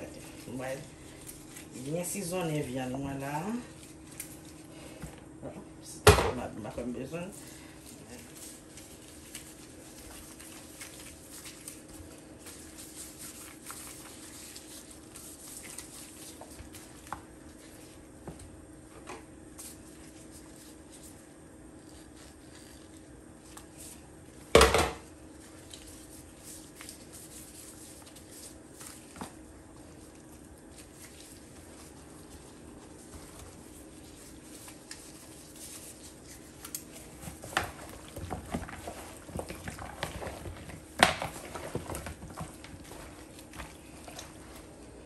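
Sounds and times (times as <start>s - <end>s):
wet handling of raw chicken: 7.3s - 45.0s.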